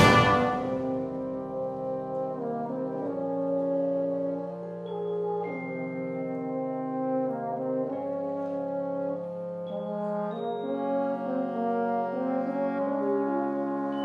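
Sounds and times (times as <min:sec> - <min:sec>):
brass ensemble playing slow chords: 0:00.0 - 0:14.0.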